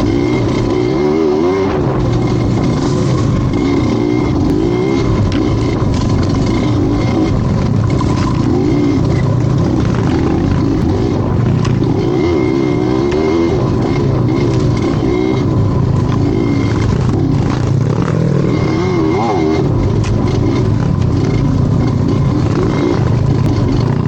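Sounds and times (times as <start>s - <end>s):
vehicle engine revving: 0.0s - 24.0s.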